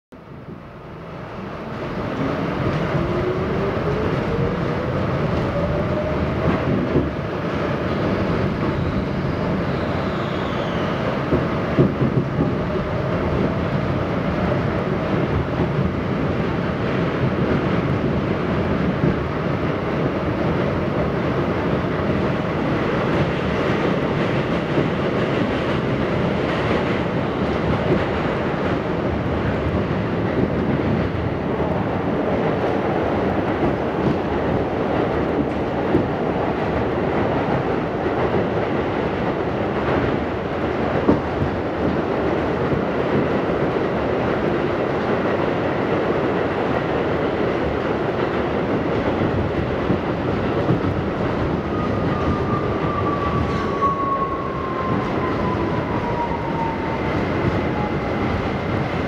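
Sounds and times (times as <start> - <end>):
wheels rumbling on rails: 0.4 - 59.0.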